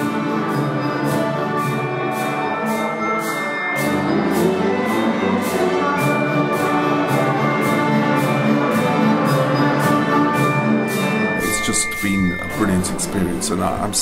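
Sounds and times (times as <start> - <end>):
sharp percussive beat: 0.0 - 14.0.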